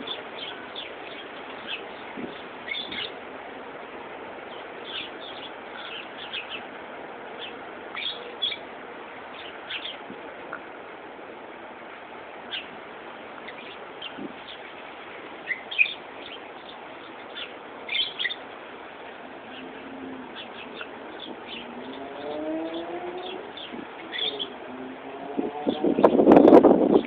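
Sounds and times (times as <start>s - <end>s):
birds chirping: 0.0s - 3.2s, 4.3s - 10.7s, 12.4s - 27.0s
steady background hiss: 0.0s - 27.0s.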